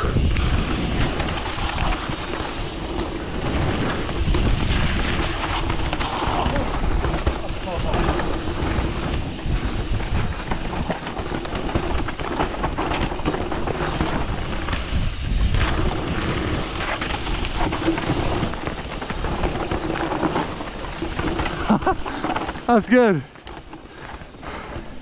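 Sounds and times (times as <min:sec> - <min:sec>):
bike rattling over bumps: 0:00.0 - 0:25.0
bike tyres rumbling over dirt: 0:00.0 - 0:25.0
wind buffeting microphone: 0:00.0 - 0:25.0.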